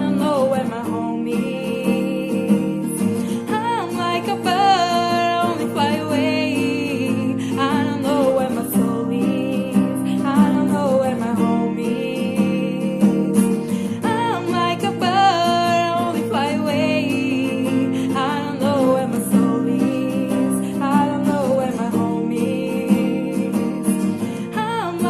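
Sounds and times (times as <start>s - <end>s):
acoustic guitar: 0.0s - 25.0s
person singing: 0.0s - 25.0s.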